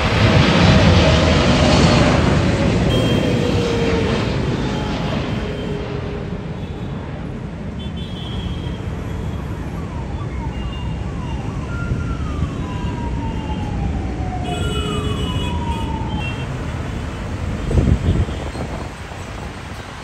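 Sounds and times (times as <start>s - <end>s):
jet engines rumbling: 0.0s - 7.9s, 8.6s - 20.0s.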